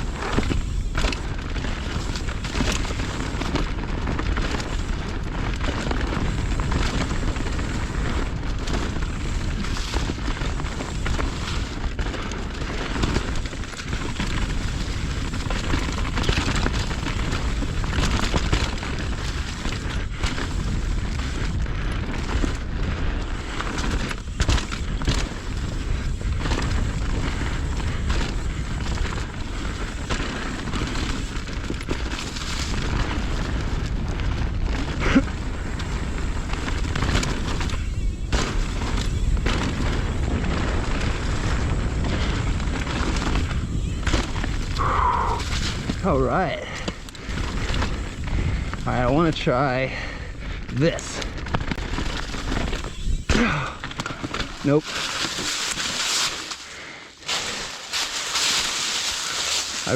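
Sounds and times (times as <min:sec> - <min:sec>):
wind buffeting microphone: 0:00.0 - 0:54.2
bike rattling and clicking: 0:00.0 - 0:59.9
tyres on dirt: 0:00.0 - 0:59.9.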